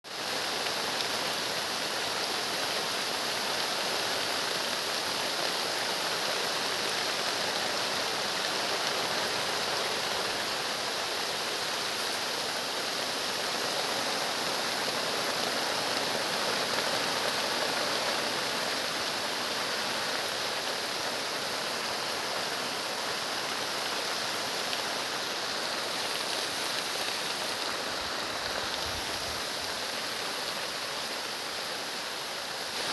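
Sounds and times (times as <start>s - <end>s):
heavy rain hissing: 0.1s - 32.9s.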